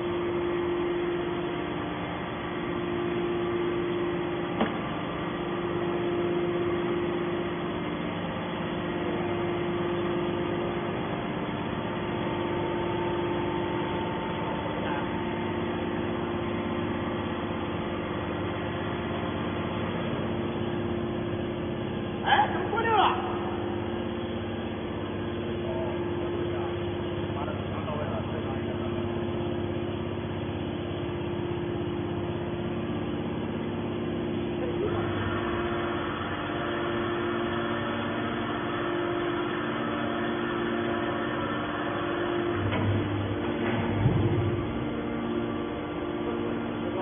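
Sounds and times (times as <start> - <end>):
hydraulic motor humming: 0.0 - 47.0.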